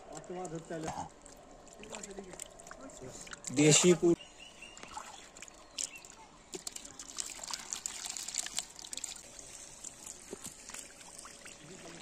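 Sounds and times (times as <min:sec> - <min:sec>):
muddy water splashing and trickling: 0:00.0 - 0:12.0.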